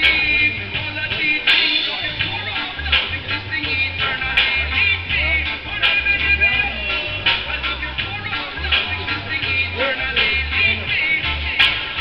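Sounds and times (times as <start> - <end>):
bass line: 0.0 - 12.0
live reggae band: 0.0 - 12.0.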